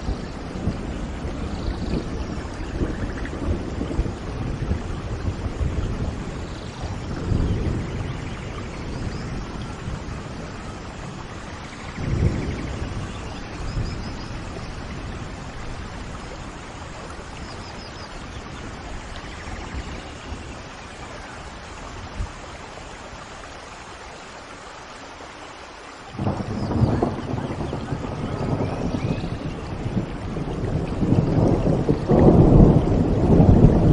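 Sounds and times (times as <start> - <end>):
thunder rolling: 0.0 - 21.1, 26.1 - 33.9
heavy rain falling: 0.0 - 33.9.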